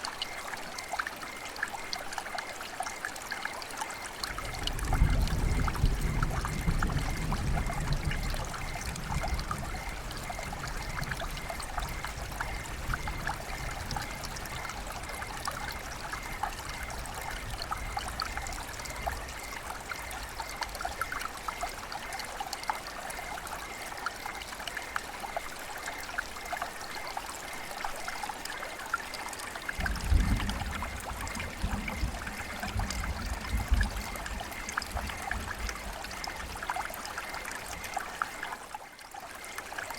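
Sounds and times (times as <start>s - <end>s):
river water babbling: 0.0s - 4.7s, 8.2s - 39.9s.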